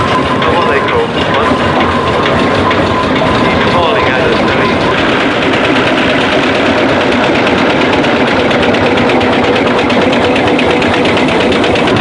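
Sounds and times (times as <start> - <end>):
steam traction engine running: 0.0 - 12.0.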